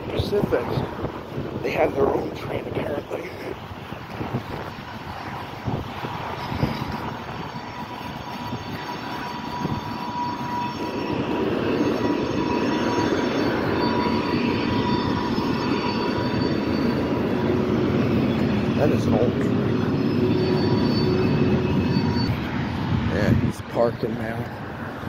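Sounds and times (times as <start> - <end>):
diesel locomotive droning: 0.0 - 25.0
thin high whine: 0.0 - 25.0.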